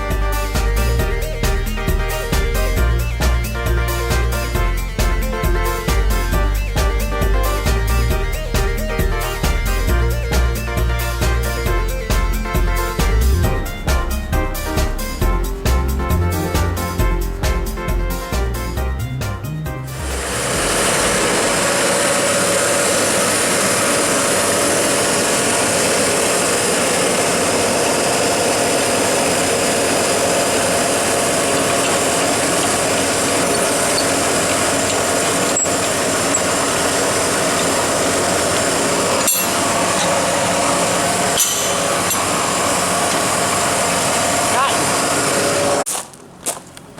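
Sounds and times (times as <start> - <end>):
farm machinery running: 0.0 - 46.8.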